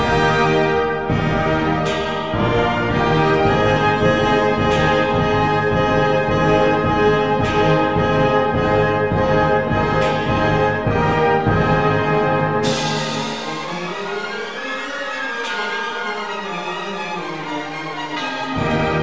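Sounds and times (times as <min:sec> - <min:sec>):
instrumental music sustained chords: 0:00.0 - 0:19.0.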